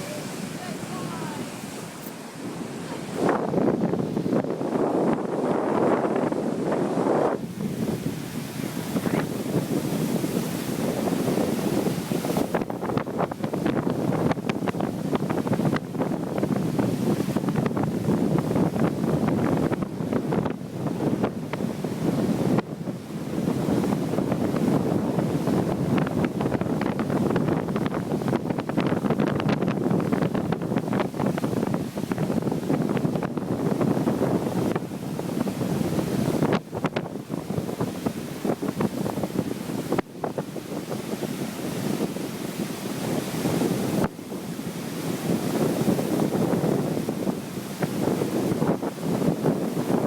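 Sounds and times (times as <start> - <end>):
lake waves breaking on shore: 0.0 - 50.0
wind buffeting microphone: 0.0 - 50.0.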